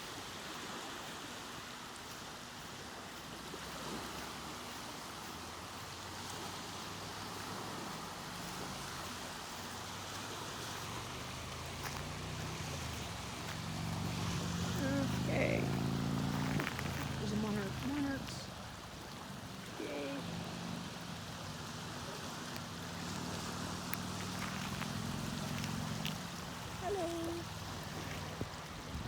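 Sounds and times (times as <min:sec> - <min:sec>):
lake waves lapping: 0:00.0 - 0:29.0.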